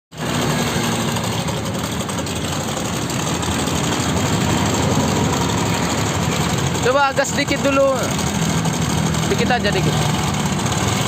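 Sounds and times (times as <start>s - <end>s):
scooter engine idling with rattling knock: 0.2s - 11.0s.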